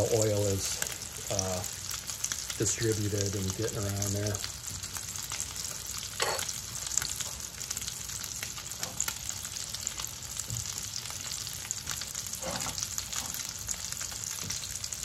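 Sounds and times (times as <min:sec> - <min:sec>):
patties sizzling in oil: 0:00.0 - 0:15.0.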